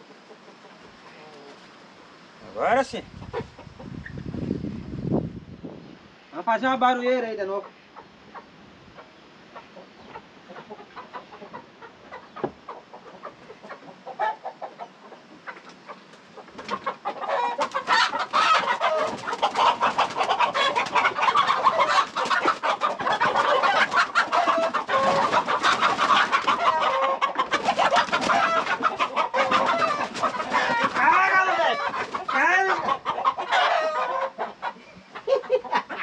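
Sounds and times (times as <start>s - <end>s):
chickens clucking: 0.0s - 4.6s, 7.1s - 36.0s
chickens squawking: 2.5s - 4.5s, 7.4s - 36.0s.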